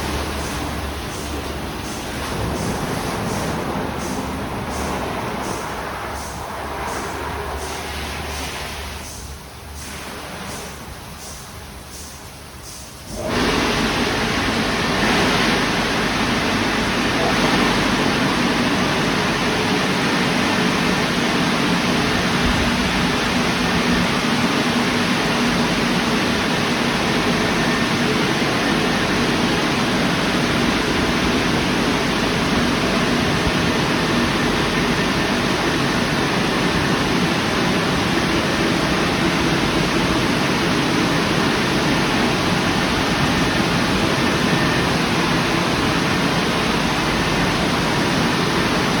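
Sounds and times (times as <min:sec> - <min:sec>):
car wash rushing noise: 0:00.0 - 0:49.0.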